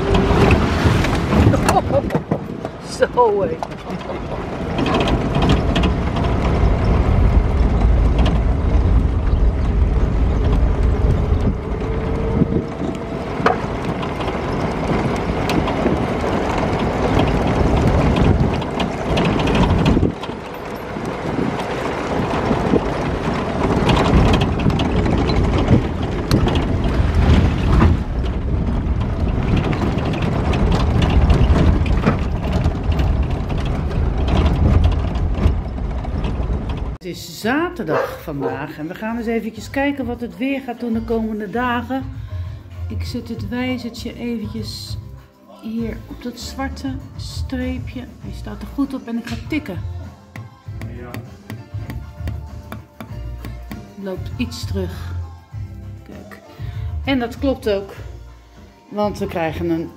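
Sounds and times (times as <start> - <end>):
car body rattling: 0.0 - 42.2, 45.9 - 55.1
car engine and tyres rumbling: 0.0 - 59.9.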